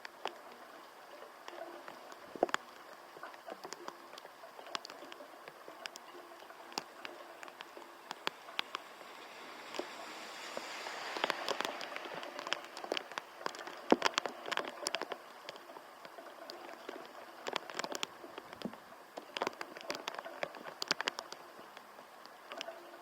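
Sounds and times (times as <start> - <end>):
hiss of falling rain: 0.0 - 23.0
raindrops spattering close: 0.0 - 23.0.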